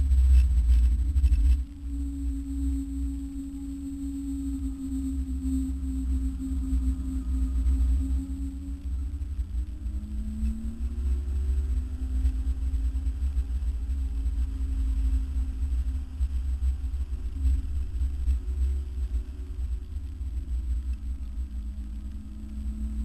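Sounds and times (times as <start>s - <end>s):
heavy low rumble: 0.0s - 23.0s.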